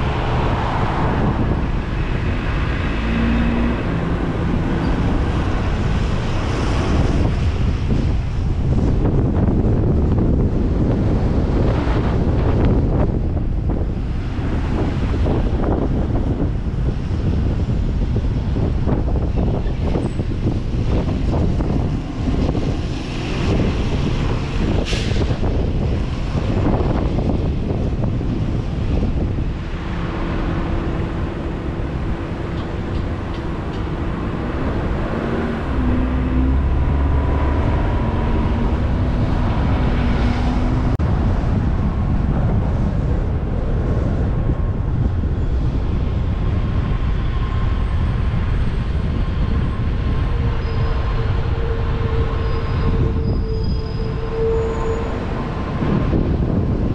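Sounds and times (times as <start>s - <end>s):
car road and engine noise: 0.0s - 56.9s.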